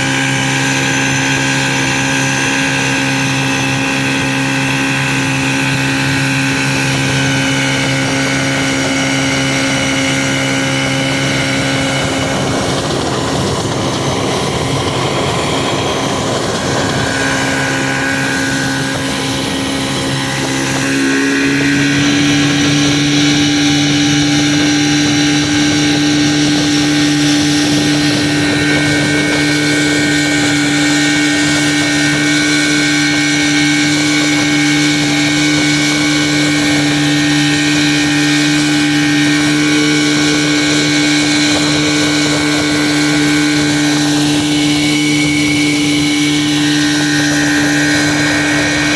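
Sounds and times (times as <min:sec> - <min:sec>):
motorboat engine: 0:00.0 - 0:48.9
water noise: 0:00.0 - 0:48.9
wind noise: 0:00.0 - 0:48.9.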